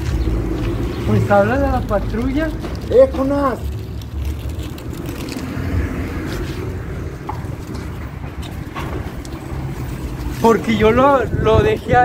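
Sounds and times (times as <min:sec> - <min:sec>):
faint street background: 0:00.0 - 0:12.0
wind buffeting microphone: 0:00.0 - 0:12.0.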